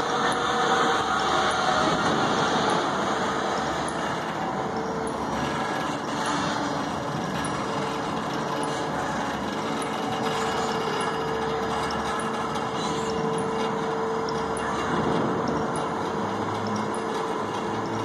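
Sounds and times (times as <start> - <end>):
constant whining tone: 0.0 - 18.0
gantry crane mechanical drone: 0.0 - 18.0.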